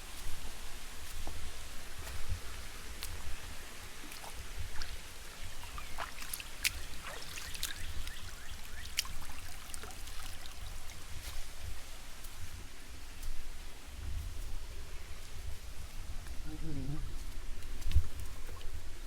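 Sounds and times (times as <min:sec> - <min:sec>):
rain falling in woodland: 0:00.0 - 0:19.0.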